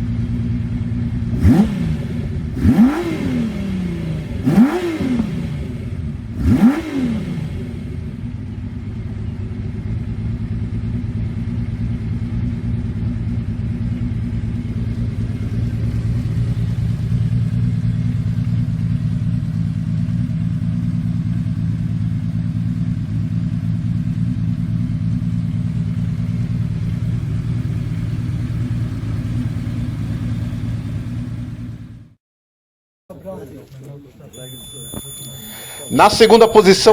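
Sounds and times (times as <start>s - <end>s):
motorcycle engine running: 0.0s - 32.2s.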